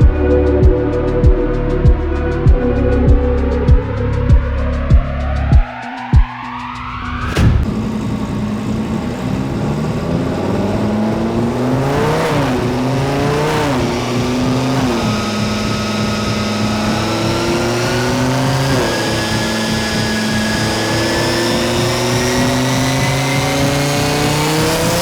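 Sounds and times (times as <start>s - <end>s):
car engine idling: 0.0s - 25.0s
engine throttle blips: 0.0s - 25.0s
thin rising whine: 0.0s - 25.0s.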